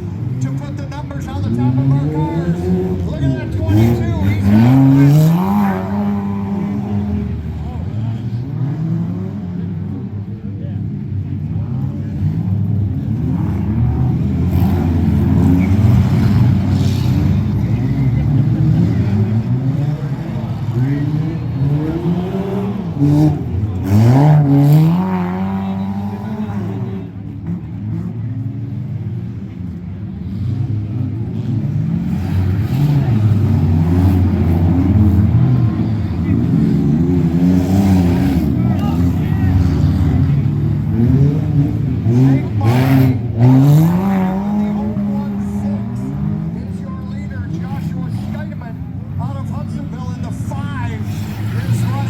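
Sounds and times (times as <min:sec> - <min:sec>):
race car engines revving: 0:00.0 - 0:52.0.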